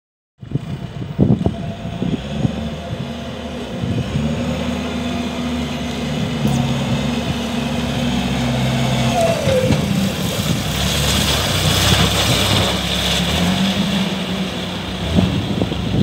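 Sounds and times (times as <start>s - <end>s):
diesel engine running: 0.4s - 16.0s.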